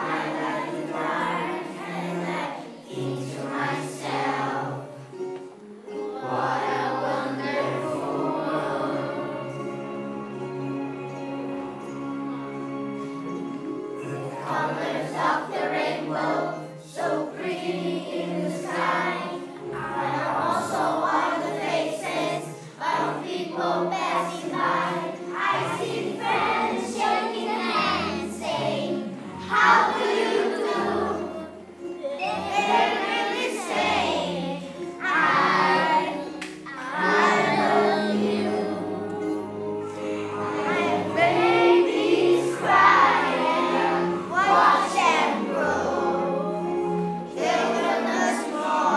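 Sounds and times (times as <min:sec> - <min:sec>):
children singing in unison: 0:00.0 - 0:48.9
musical accompaniment: 0:00.0 - 0:48.9.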